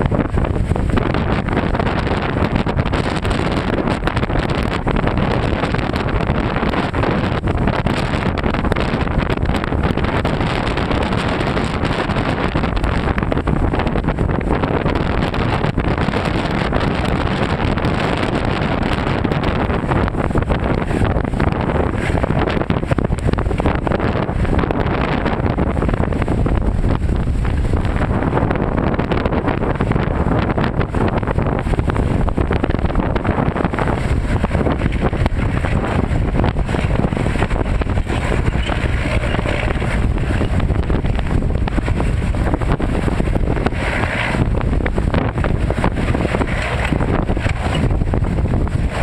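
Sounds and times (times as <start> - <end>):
diesel engine: 0.0 - 49.0
waves breaking through ice: 0.0 - 49.0
wind buffeting microphone: 0.0 - 49.0.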